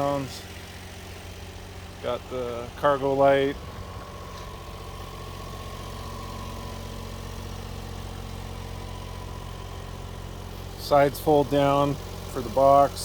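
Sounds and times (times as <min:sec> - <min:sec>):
small truck engine idling: 0:00.0 - 0:13.0.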